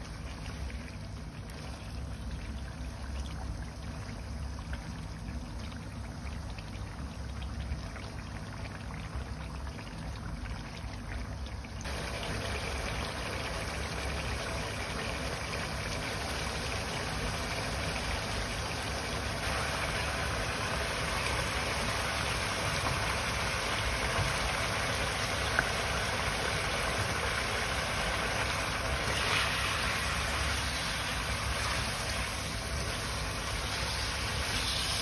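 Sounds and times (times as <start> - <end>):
sauce bubbling in a pan: 0.0 - 35.0.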